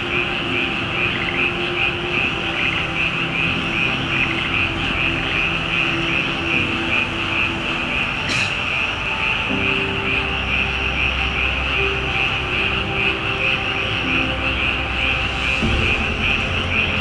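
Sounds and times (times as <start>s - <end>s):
background music: 0.0s - 17.0s
insects calling in chorus: 0.0s - 17.0s.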